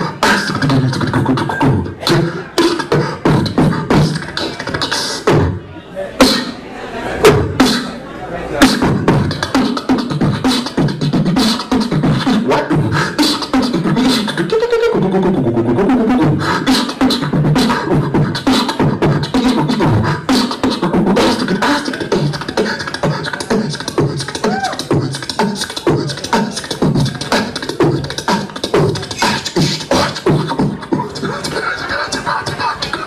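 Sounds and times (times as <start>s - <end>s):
man beatboxing: 0.0s - 5.6s, 6.2s - 6.6s, 7.2s - 8.0s, 8.6s - 33.0s.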